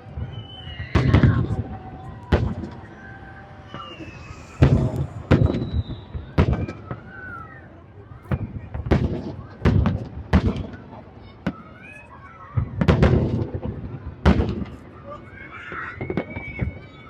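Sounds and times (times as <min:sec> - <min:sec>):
fireworks bursting with rumbling tail: 0:00.0 - 0:11.7, 0:12.5 - 0:17.0.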